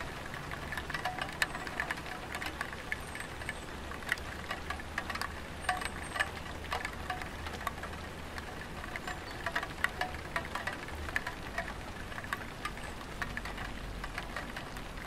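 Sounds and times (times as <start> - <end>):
raindrops tapping on tiles: 0.0 - 15.0.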